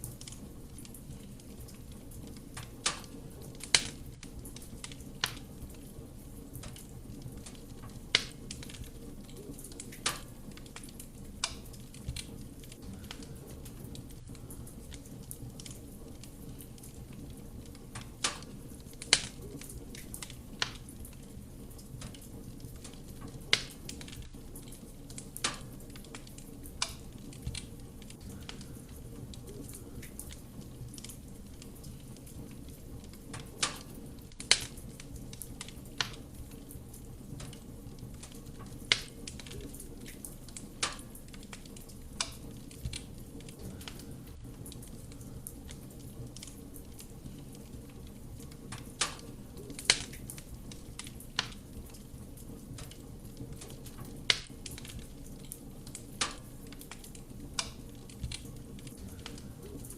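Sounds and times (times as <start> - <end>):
burning wood crackling: 0.0 - 59.9
flames rushing: 0.0 - 59.9.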